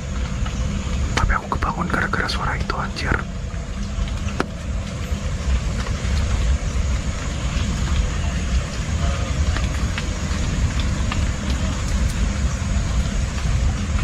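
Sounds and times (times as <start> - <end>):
continuous low rumble: 0.0 - 14.0
rain hiss: 0.0 - 14.0.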